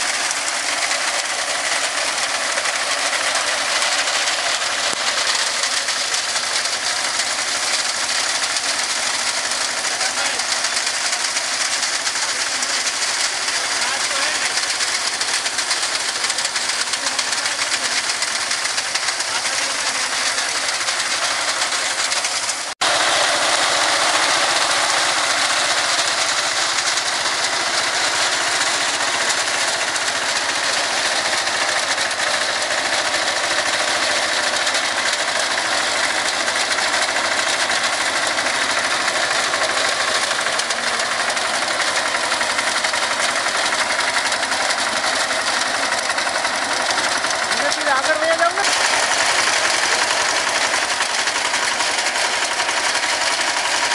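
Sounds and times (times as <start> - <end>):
cutter bar clattering through grain: 0.0 - 53.9
tractor engine running: 0.0 - 53.9.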